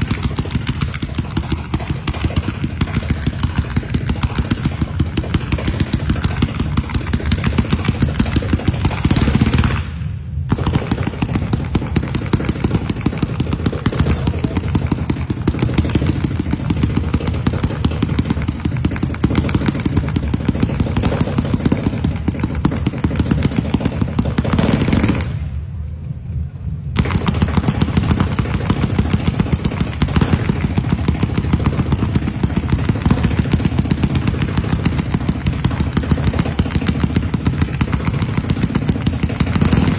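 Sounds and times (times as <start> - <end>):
firecrackers crackling: 0.0 - 25.7, 27.0 - 39.9.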